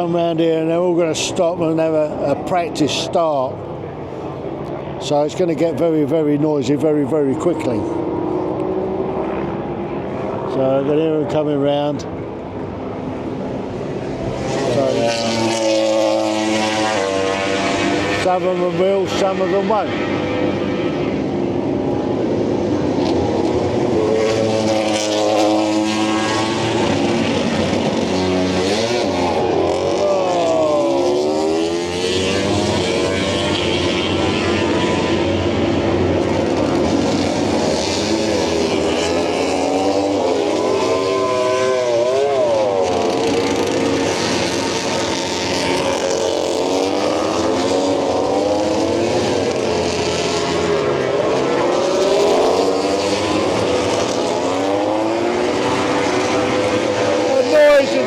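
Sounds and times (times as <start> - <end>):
motorcycles revving and accelerating: 0.0 - 58.0.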